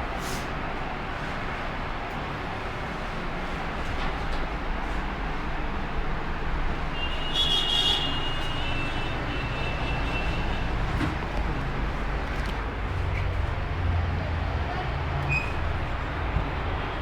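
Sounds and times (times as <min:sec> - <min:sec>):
vehicle traffic rumble: 0:00.0 - 0:17.0.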